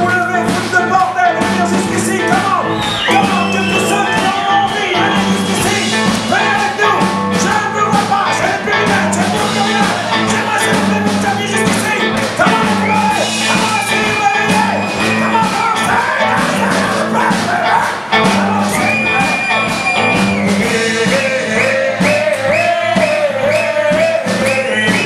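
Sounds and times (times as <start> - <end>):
driving drum beat: 0.0 - 25.0
twangy electric guitars: 0.0 - 25.0.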